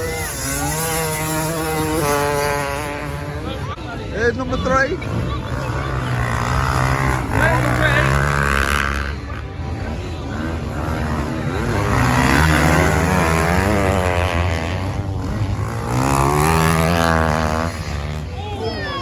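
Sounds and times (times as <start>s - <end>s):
off-road racing engines revving: 0.0s - 19.0s.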